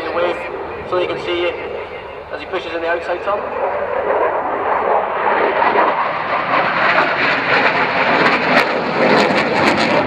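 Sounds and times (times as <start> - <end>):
jet engine roar: 0.0 - 10.0.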